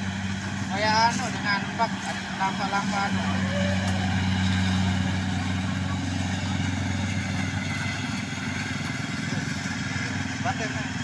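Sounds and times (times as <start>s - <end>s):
engine putter: 0.0s - 11.0s.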